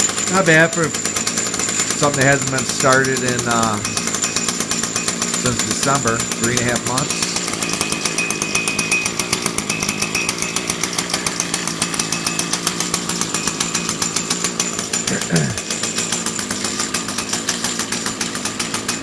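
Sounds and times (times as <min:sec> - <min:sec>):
small two-stroke engine running: 0:00.0 - 0:19.0.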